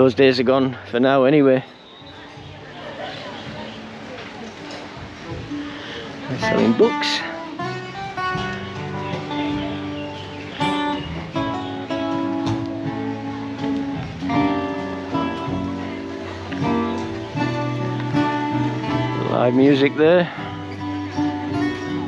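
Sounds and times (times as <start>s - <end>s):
strummed acoustic guitar: 2.1s - 22.0s.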